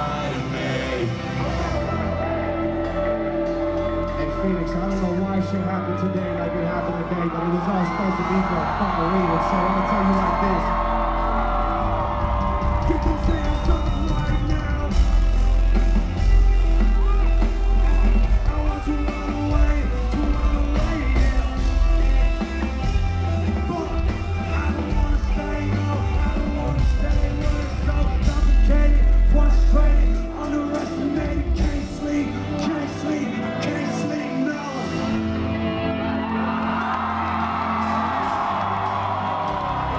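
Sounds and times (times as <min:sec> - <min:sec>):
voices singing and yelling: 0:00.0 - 0:35.2
loud live rock music: 0:00.0 - 0:39.9.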